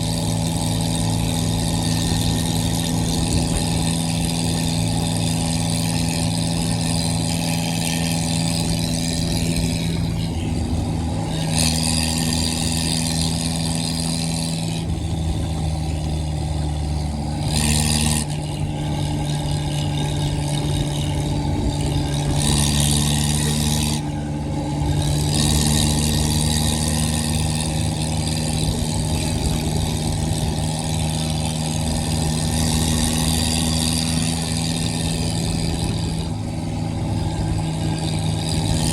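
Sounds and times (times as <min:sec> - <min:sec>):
tractor diesel engine open exhaust: 0:00.0 - 0:38.9.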